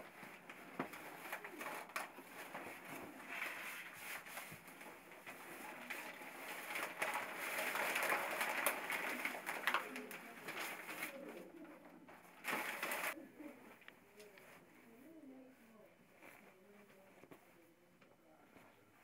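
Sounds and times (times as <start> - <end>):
sheet rustling: 0.0 - 19.0.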